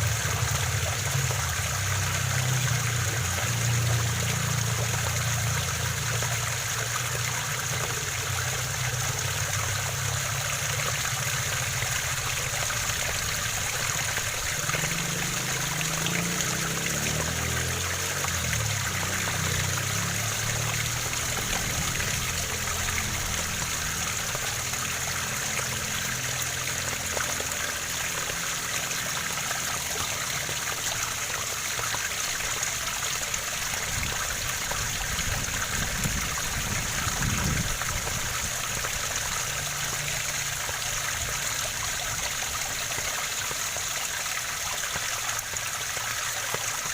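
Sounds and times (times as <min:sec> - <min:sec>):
waterfall rushing and splashing: 0:00.0 - 0:46.9.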